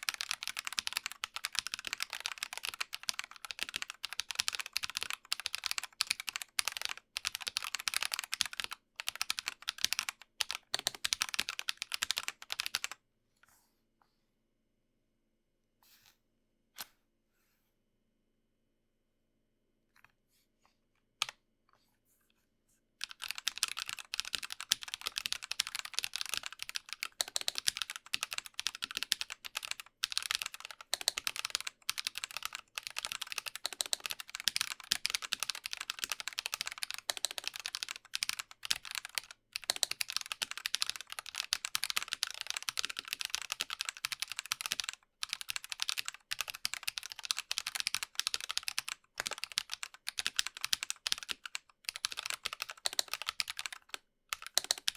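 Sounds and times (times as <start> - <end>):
fast mechanical keyboard typing: 0.0 - 13.0, 23.0 - 54.9.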